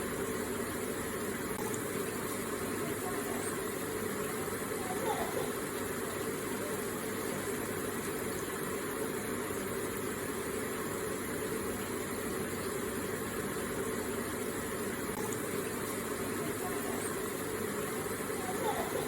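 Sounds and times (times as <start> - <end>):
water running and splashing: 0.1 - 19.0.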